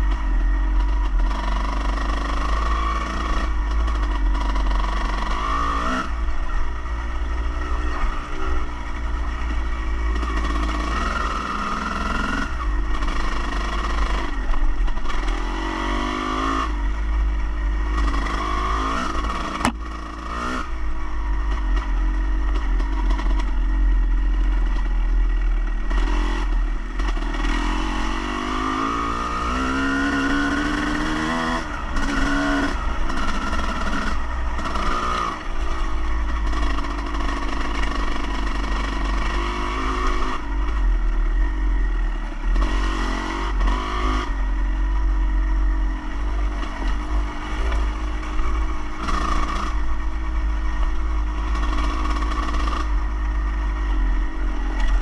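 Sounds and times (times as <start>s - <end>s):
engine revving: 0.0s - 17.1s, 17.8s - 55.0s.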